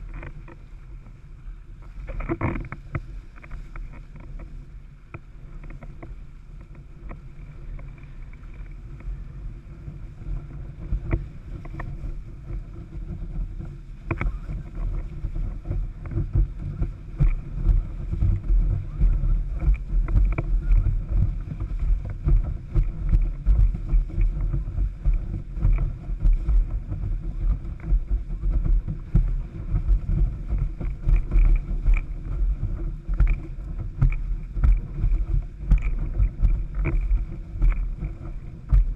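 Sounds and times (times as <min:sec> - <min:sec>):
water rushing and slapping: 0:00.0 - 0:38.9
wind buffeting on microphone: 0:00.0 - 0:38.9.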